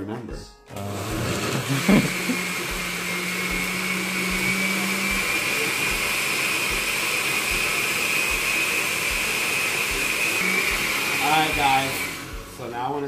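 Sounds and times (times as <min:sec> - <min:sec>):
blender running: 0:00.7 - 0:13.0.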